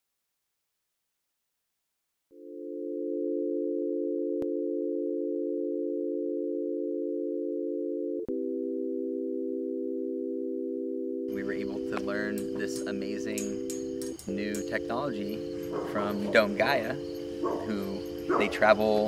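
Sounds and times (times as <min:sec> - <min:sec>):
electronic drone chord: 0:02.4 - 0:19.0.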